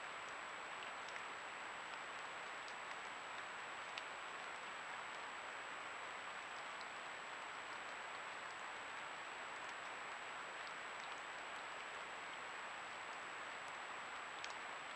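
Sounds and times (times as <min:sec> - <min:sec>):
microphone hiss: 0:00.0 - 0:14.9
water drips into puddle: 0:00.1 - 0:14.9.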